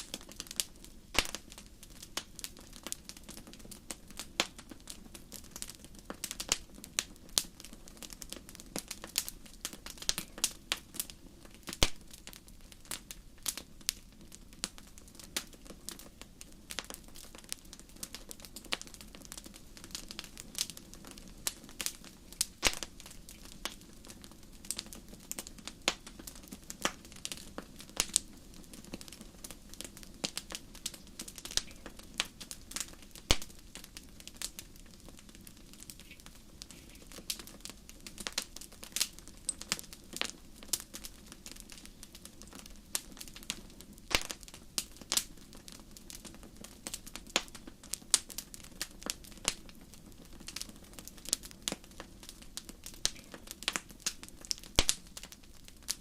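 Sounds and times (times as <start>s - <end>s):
sharp fire pops: 0.0s - 14.0s, 14.6s - 56.0s
campfire crackling: 0.0s - 56.0s
soft rush of flame: 0.0s - 56.0s.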